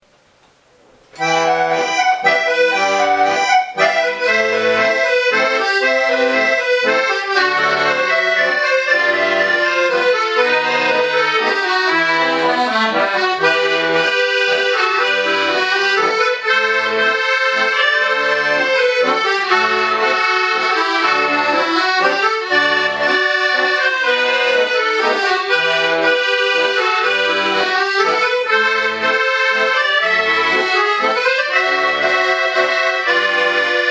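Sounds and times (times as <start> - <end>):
accordion ensemble playing: 1.2 - 33.9.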